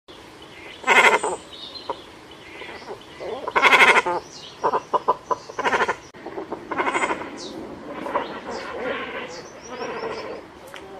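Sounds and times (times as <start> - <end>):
cormorants rasping calls: 0.6 - 10.5.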